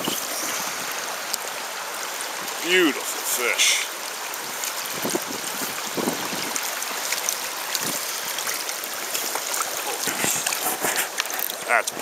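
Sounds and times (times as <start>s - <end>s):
stream water rushing: 0.0s - 12.0s
water splashes: 0.0s - 12.0s.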